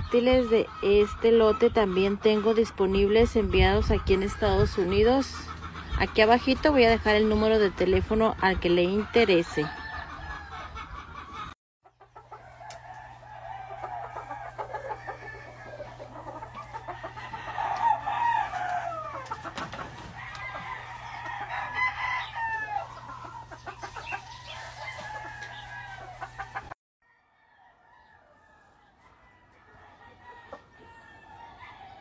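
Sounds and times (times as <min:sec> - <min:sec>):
chickens clucking: 0:00.0 - 0:26.8, 0:27.9 - 0:32.0
roosters crowing: 0:00.0 - 0:32.0.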